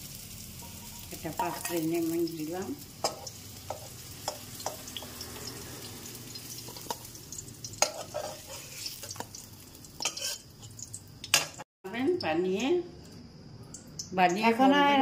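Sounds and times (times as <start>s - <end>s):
faint oil sizzle: 0.0s - 15.0s.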